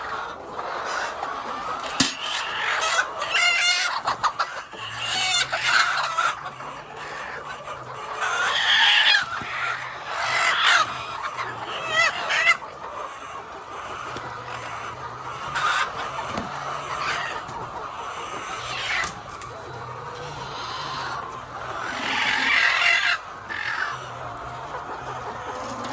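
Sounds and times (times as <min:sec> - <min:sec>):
hens clucking and squawking: 0:00.0 - 0:25.9.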